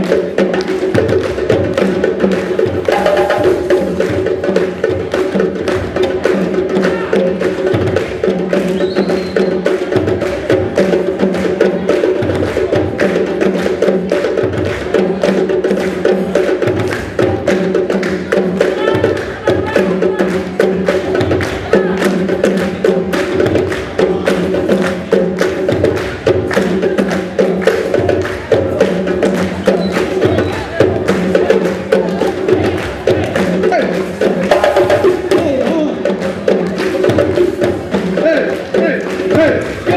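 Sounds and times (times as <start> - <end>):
fast clicking percussion: 0.0 - 39.9.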